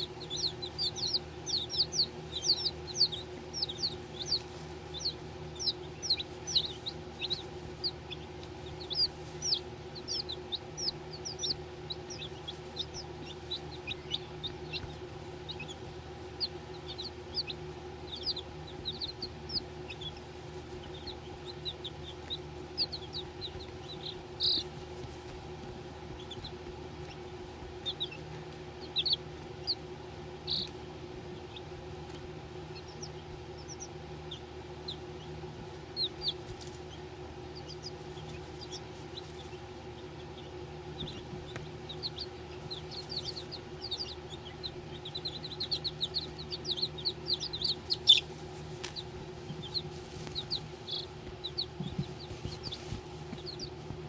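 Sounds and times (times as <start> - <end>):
chicks peeping: 0.0 - 54.0
steady low hum: 0.0 - 54.0.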